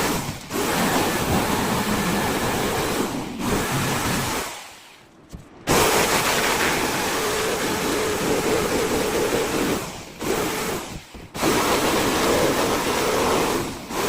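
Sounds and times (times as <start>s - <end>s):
electric power tool running: 0.0s - 4.5s, 5.7s - 14.0s.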